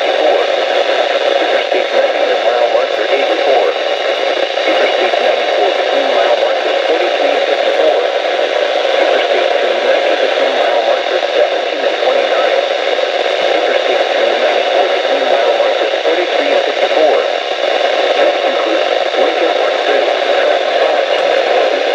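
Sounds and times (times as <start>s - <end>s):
faint broadcast voice: 0.0s - 21.9s
radio static hiss: 0.0s - 21.9s.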